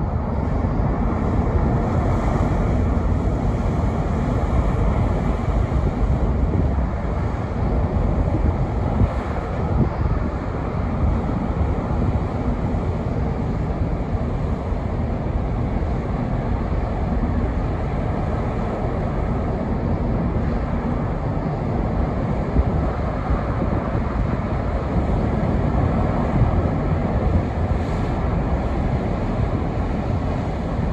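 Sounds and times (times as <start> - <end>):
wind on microphone: 0.0 - 30.9.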